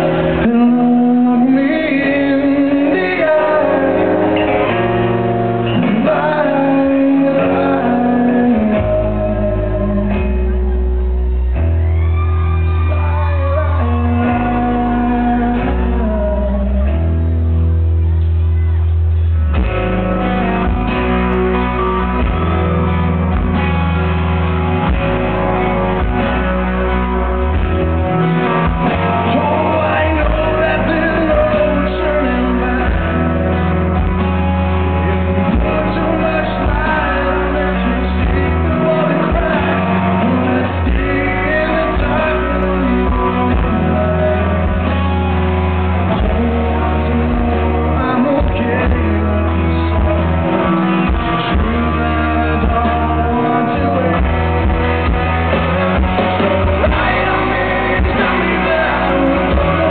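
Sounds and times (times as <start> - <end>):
man singing lead vocal: 0.0 - 11.2, 11.8 - 17.5, 20.1 - 59.9
deep bass line: 0.0 - 59.9
electric guitars: 0.0 - 59.9.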